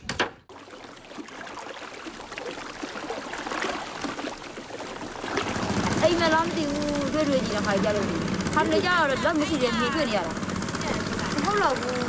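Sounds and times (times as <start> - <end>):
water lapping at shoreline: 0.5 - 12.0.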